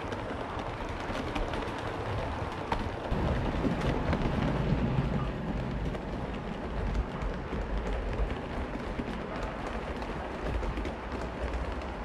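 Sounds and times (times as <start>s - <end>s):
model train wheels rumbling: 0.0s - 12.0s.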